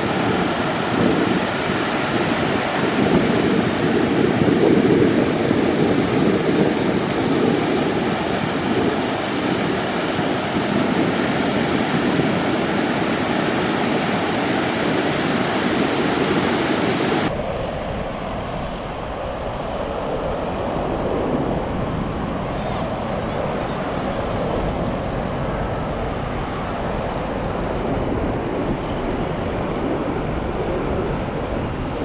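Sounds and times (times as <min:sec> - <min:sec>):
ocean surf on beach: 0:00.0 - 0:32.0
wind on microphone: 0:00.0 - 0:32.0.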